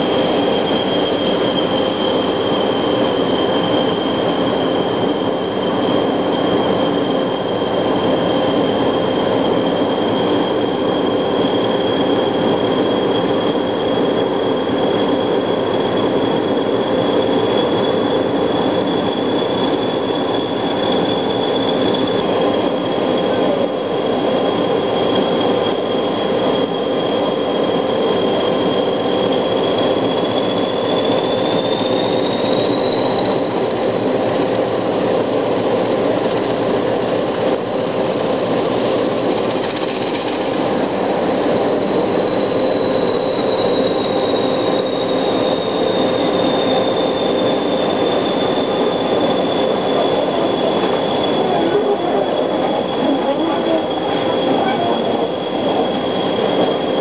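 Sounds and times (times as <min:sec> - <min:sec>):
diesel locomotive engine working: 0:00.0 - 0:57.0
steady high whistle: 0:00.0 - 0:57.0
wheels rumbling on rail: 0:00.0 - 0:57.0.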